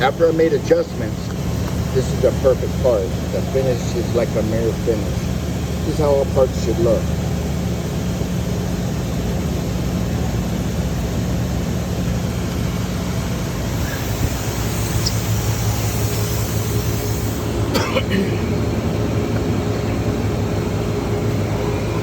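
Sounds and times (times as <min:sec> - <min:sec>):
shop machinery droning: 0:00.0 - 0:22.0.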